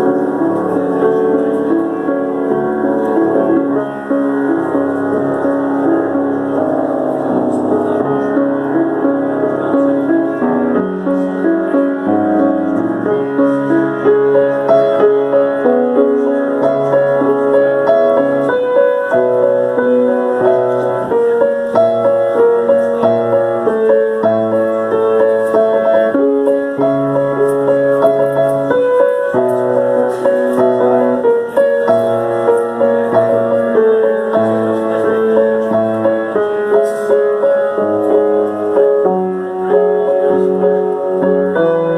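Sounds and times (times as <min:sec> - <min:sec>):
piano piece: 0:00.0 - 0:41.9.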